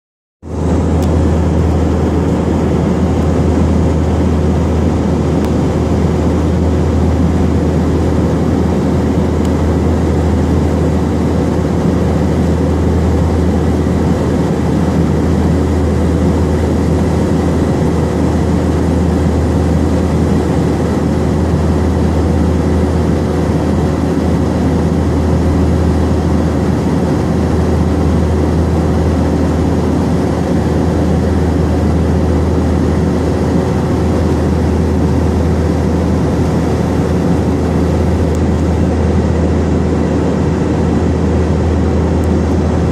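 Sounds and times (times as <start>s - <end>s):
aircraft cabin drone: 0.4s - 42.9s.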